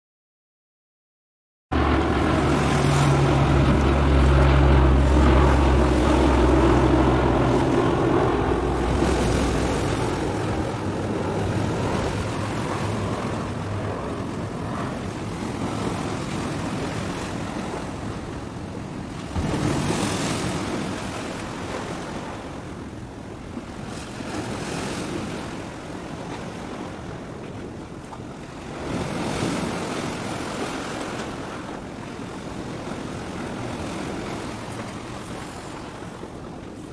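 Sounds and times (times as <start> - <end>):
ship engine drone: 1.7 - 36.9
wind on microphone: 1.7 - 36.9.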